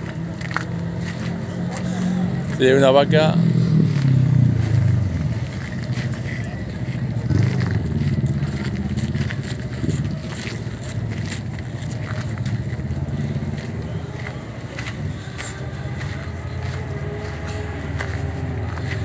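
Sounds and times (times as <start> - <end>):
footsteps on gravel: 0.0 - 19.0
motorcycle engines rumbling: 0.0 - 19.0.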